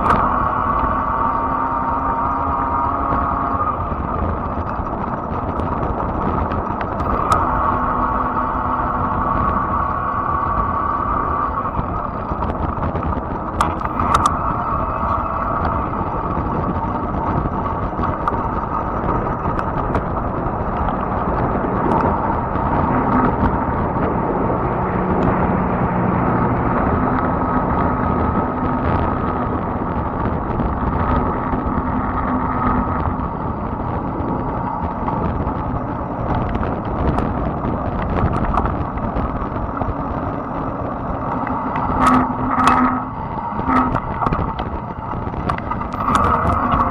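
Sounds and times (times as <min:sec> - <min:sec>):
faint whine: 0:00.0 - 0:46.9
tyre and road noise: 0:00.0 - 0:46.9
wind on microphone: 0:00.0 - 0:46.9.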